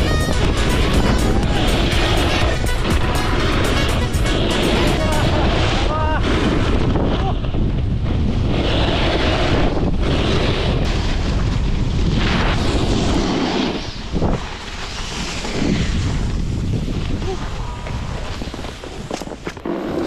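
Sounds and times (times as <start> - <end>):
snowboard scraping on snow: 0.0 - 7.2, 8.1 - 20.0
wind rushing over microphone: 0.0 - 20.0.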